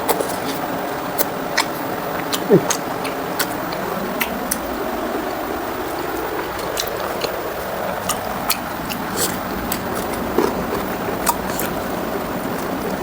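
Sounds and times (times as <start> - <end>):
mouth smacks and clicks: 0.0 - 4.9, 5.9 - 11.8
chewing and wet mouth sounds: 0.0 - 13.0.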